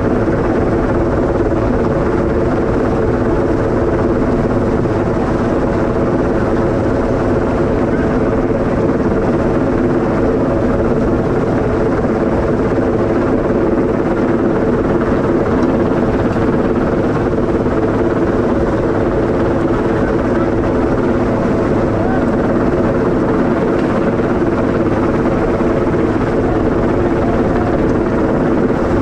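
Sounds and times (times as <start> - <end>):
helicopter rotor and engine drone: 0.0 - 29.0.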